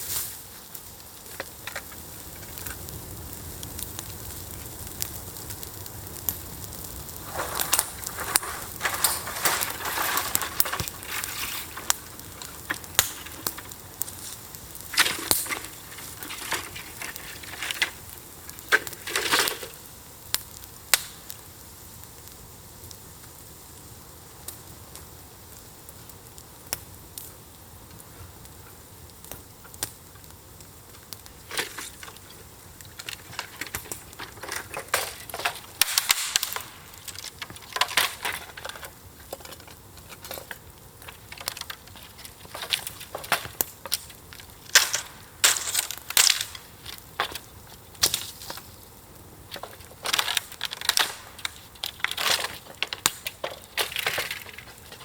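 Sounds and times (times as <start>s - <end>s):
campfire hissing and popping: 0.0s - 55.0s
dry kindling snapping: 0.0s - 55.0s.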